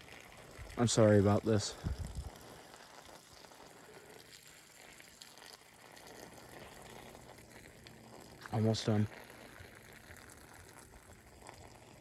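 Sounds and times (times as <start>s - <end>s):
faint trickle of urine: 0.0s - 12.0s.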